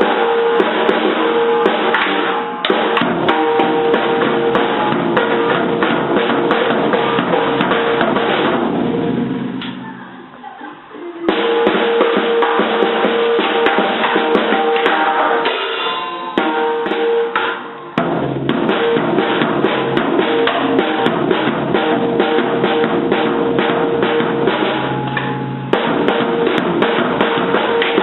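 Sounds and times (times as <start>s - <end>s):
drum and cymbal hits: 0.0s - 10.0s, 11.3s - 28.0s.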